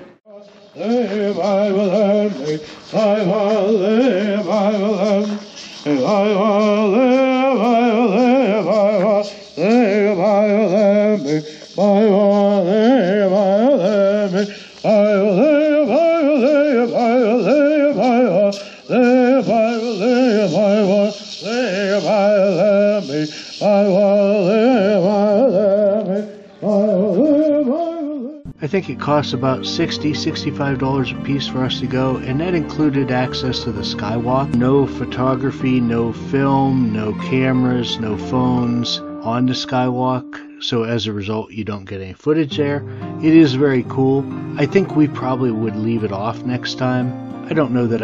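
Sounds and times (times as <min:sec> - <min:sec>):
men chanting: 0:00.0 - 0:40.3.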